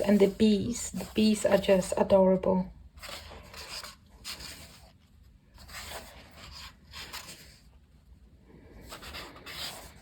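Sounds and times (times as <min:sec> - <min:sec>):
paper pages rustling: 0:00.0 - 0:02.1, 0:02.9 - 0:07.9, 0:08.8 - 0:10.0.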